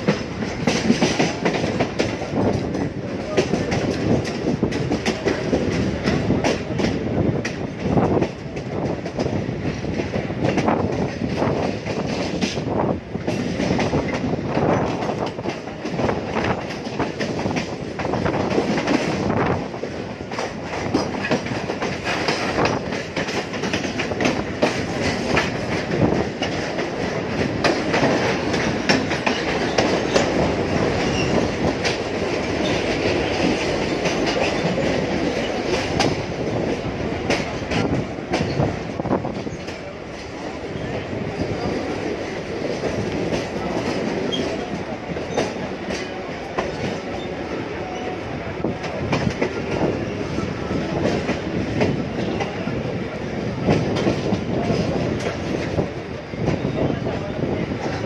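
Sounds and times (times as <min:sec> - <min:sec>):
wheels clacking over rail joints: 0:00.0 - 0:52.7
train wheels rumbling on rail: 0:00.0 - 0:58.0.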